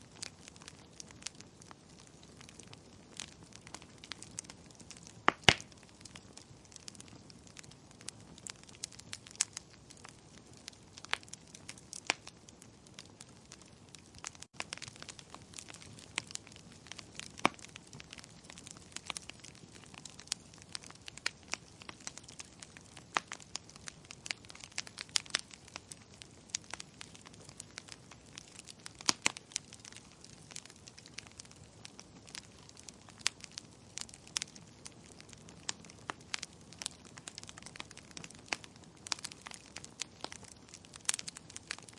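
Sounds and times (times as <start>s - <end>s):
burning logs crackling and popping: 0.0s - 41.9s.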